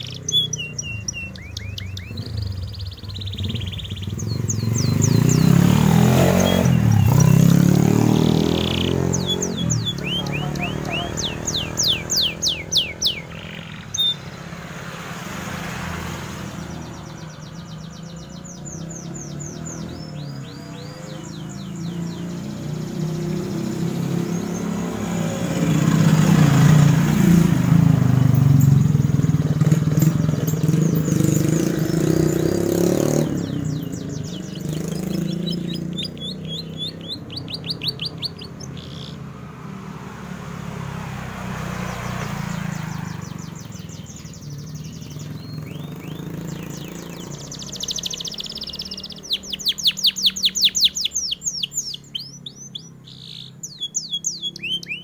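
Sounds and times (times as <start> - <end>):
canary trilling and chirping: 0.0 - 39.3, 41.6 - 55.0
motor vehicle passing: 0.0 - 55.0.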